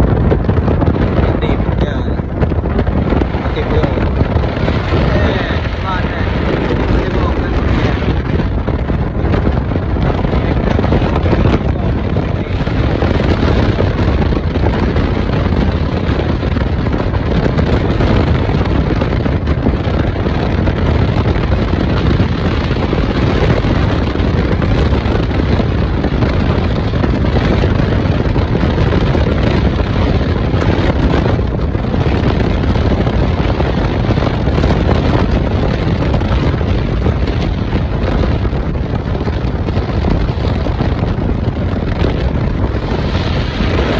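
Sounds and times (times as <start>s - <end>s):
car wind and road noise: 0.0s - 43.9s.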